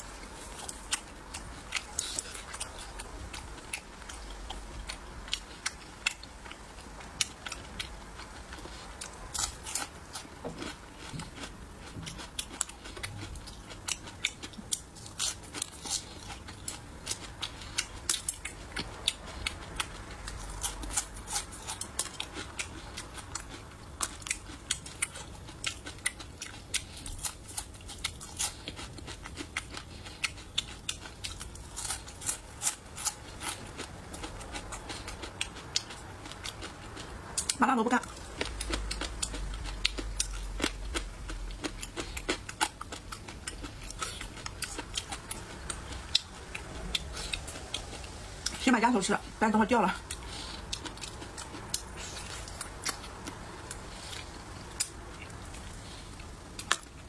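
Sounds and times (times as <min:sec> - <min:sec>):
wet chewing: 0:00.0 - 0:48.6, 0:49.9 - 0:57.0.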